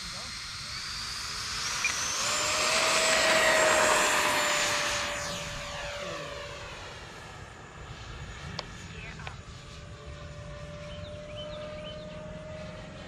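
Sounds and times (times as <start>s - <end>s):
model jet fan whine: 0.0s - 13.0s.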